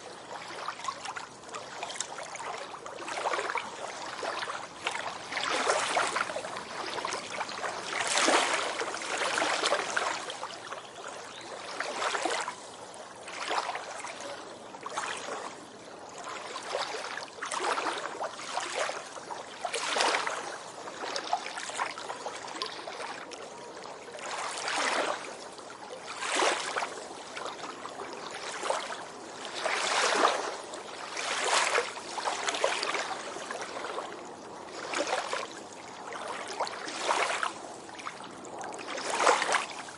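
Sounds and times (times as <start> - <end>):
ocean waves washing onto beach: 0.0 - 10.7, 11.6 - 39.9.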